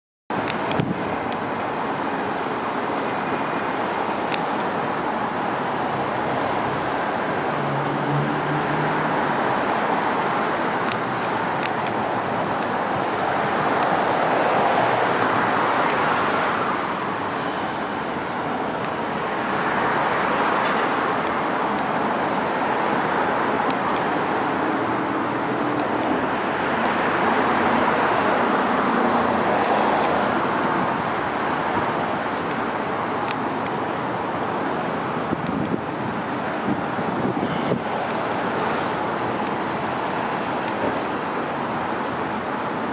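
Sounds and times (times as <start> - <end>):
road traffic passing: 0.3 - 42.9.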